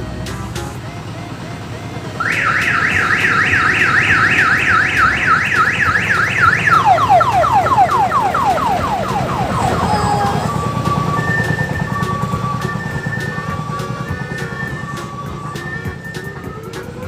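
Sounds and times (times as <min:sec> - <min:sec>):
engine running: 0:00.0 - 0:17.0
electronic siren whooping: 0:00.8 - 0:17.0.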